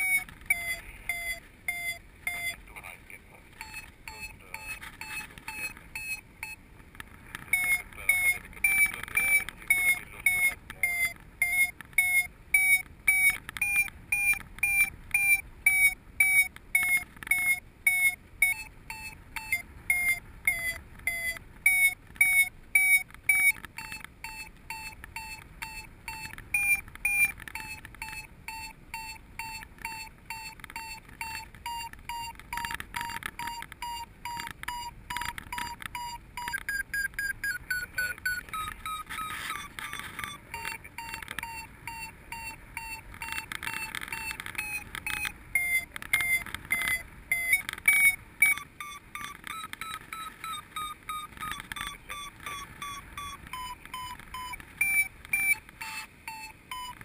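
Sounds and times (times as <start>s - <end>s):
variometer beeping: 0.0s - 57.0s.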